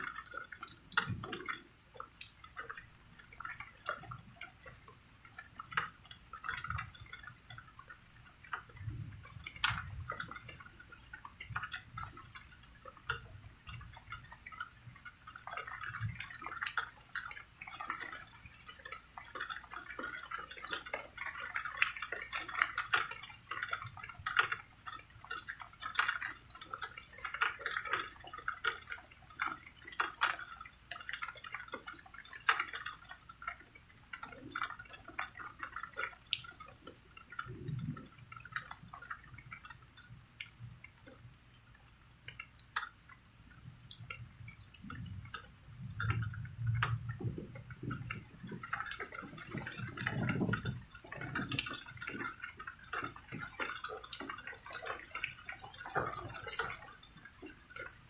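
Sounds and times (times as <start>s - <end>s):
rain dripping: 0.0s - 58.0s.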